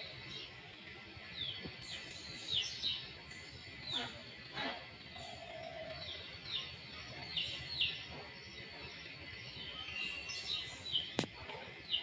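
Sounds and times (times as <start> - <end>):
small birds chirping: 0.0 - 12.0
steady background hiss: 0.0 - 12.0.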